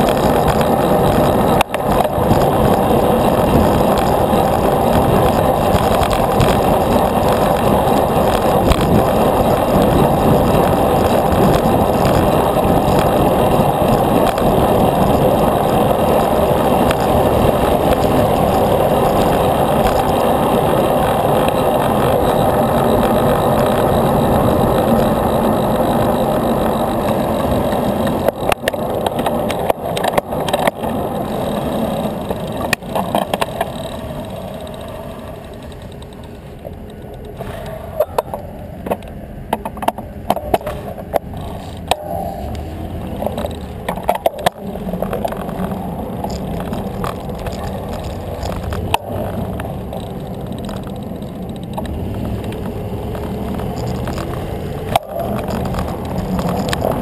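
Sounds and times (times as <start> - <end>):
bicycle clicks and rattles: 0.0 - 57.0
wind and road noise rushing: 0.0 - 57.0.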